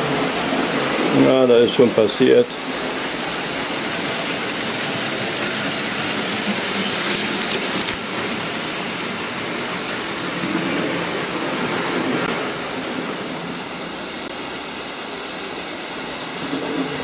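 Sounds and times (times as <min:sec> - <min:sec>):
model trains rattling on track: 0:00.0 - 0:13.5, 0:15.1 - 0:17.0.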